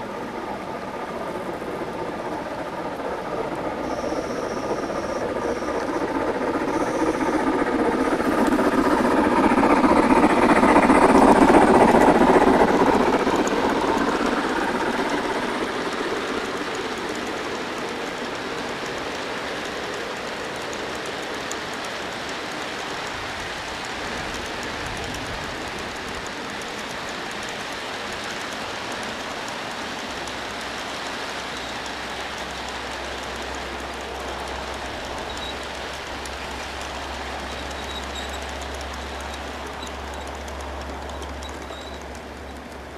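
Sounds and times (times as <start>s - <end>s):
model train wheels clattering: 0.0s - 42.9s.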